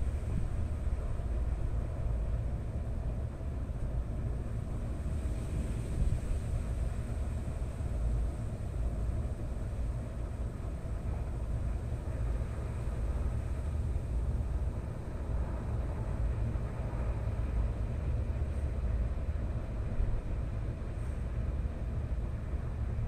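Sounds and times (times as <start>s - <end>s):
low rumbling background noise: 0.0s - 23.0s.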